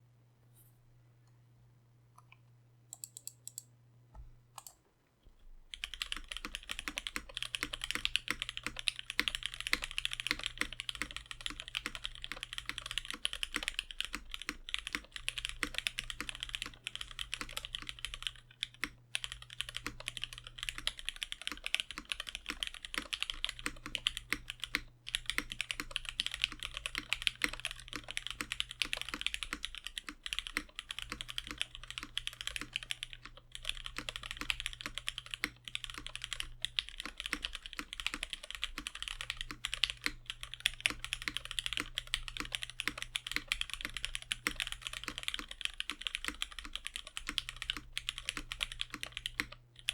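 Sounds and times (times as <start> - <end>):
mechanical keyboard typing: 2.9 - 3.7, 5.7 - 49.9.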